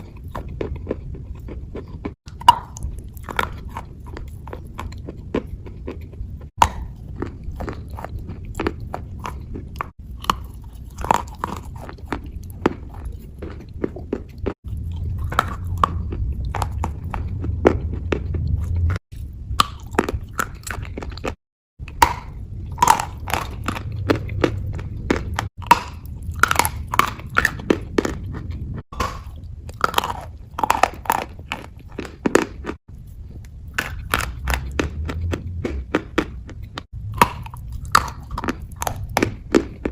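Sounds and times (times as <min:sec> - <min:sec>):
wet crunching: 0:00.0 - 0:39.9.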